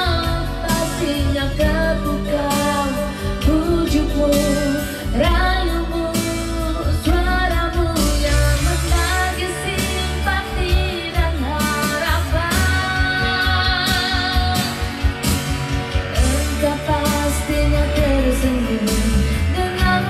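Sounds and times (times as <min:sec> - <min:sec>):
karaoke backing track: 0:00.0 - 0:20.0
woman singing into microphone: 0:00.0 - 0:20.0.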